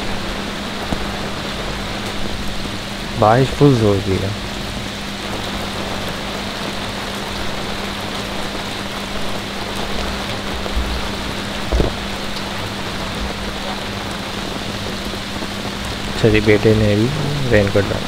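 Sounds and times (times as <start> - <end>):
heavy rain falling: 0.0 - 18.0
low steady hum: 0.0 - 18.0.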